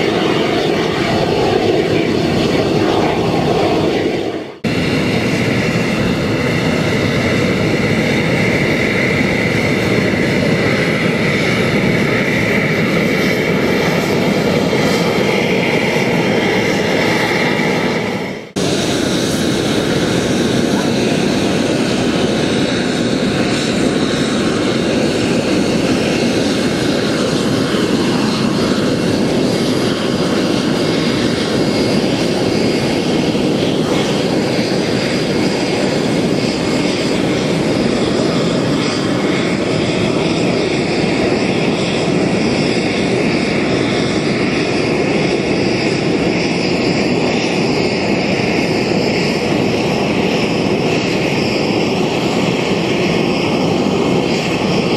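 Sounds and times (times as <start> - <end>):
jet engine rushing: 0.0 - 54.9.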